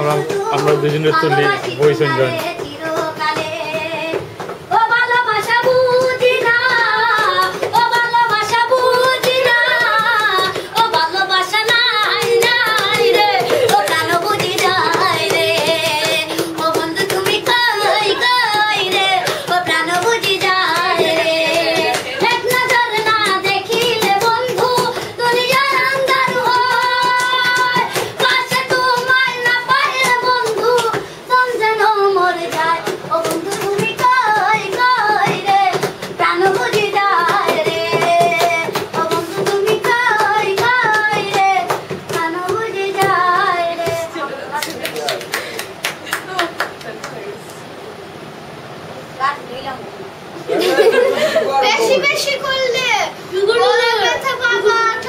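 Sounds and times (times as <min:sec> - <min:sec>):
hand claps: 0:00.0 - 0:04.6, 0:05.2 - 0:47.2
child singing: 0:00.0 - 0:44.2, 0:52.3 - 0:55.0.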